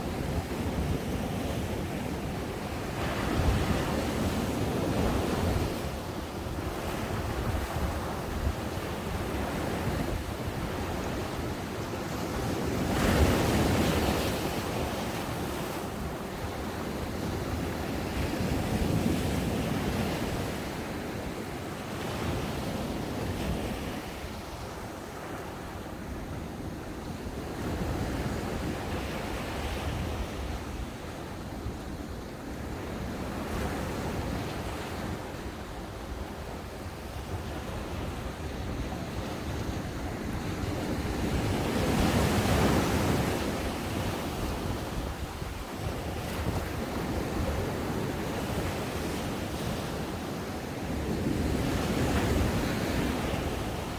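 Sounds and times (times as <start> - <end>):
ocean waves breaking on beach: 0.0 - 53.9.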